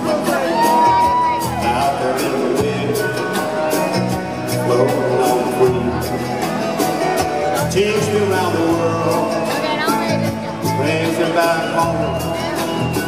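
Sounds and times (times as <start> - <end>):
live band playing country rock: 0.0 - 13.0
person singing: 0.0 - 13.0.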